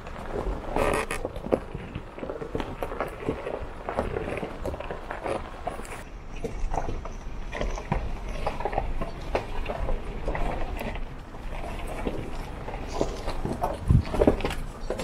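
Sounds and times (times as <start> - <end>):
tyres crunching over gravel: 0.0 - 15.0.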